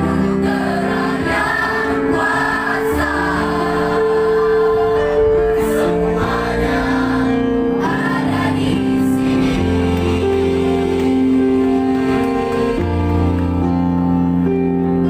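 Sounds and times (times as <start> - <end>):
mixed choir singing in harmony: 0.0 - 13.6.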